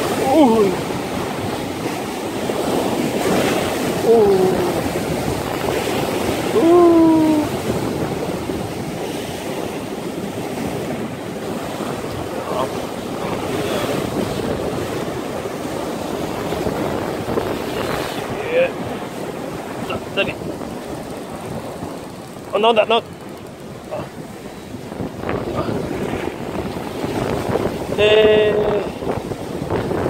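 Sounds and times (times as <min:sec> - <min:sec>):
surf breaking over rocks: 0:00.0 - 0:30.0
wind buffeting microphone: 0:00.0 - 0:30.0.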